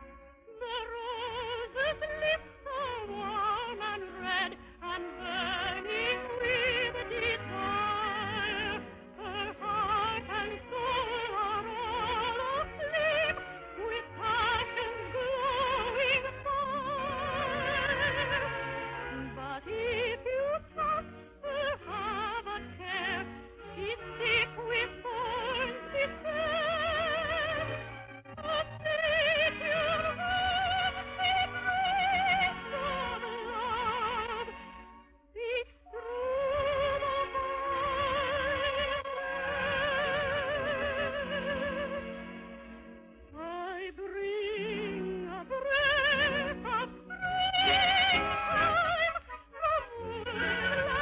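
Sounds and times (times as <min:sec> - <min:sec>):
operetta singing with vibrato: 0:00.0 - 0:51.0.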